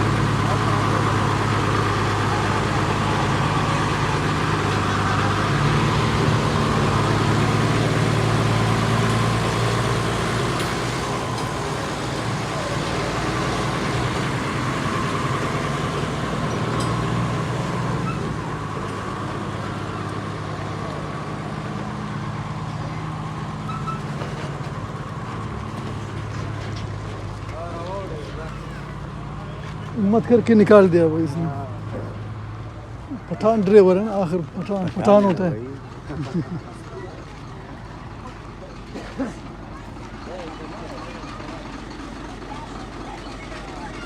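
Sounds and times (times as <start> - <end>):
road noise: 0.0 - 44.0
truck engine running: 0.0 - 44.0.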